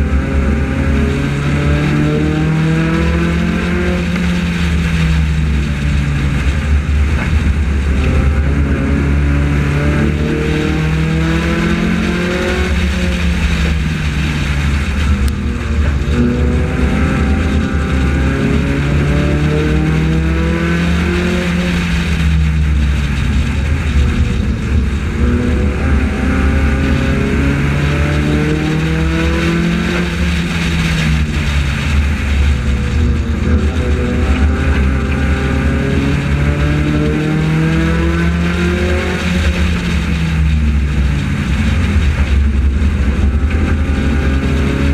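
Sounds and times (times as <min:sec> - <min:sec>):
race car engine: 0:00.0 - 0:44.9.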